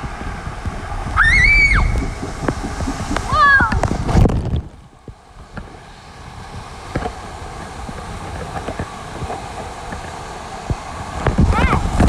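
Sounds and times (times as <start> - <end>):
water rushing and splashing: 0.0 - 12.0
wind buffeting microphone: 0.0 - 12.0.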